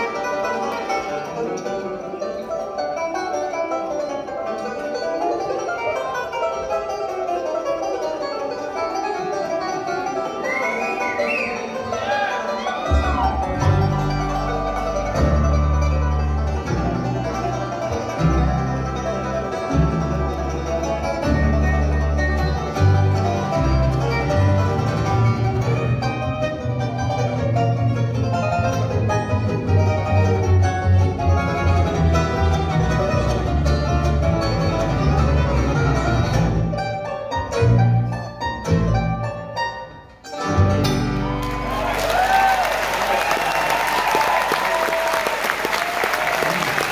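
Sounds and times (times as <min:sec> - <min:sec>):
bluegrass band playing: 0:00.0 - 0:46.9.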